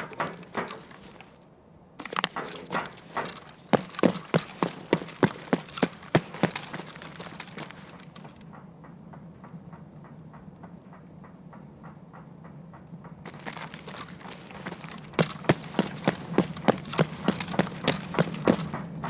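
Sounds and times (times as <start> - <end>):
rhythmic clip-clop knocking: 2.0 - 19.0.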